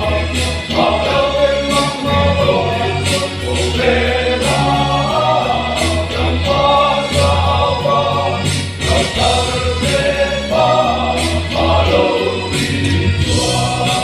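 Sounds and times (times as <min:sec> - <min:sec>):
men's choir singing in harmony: 0:00.0 - 0:14.0.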